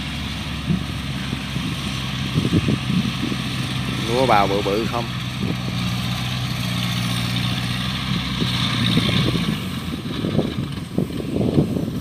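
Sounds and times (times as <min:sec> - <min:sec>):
tractor engine running: 0:00.0 - 0:12.0
wind buffeting microphone: 0:00.0 - 0:12.0.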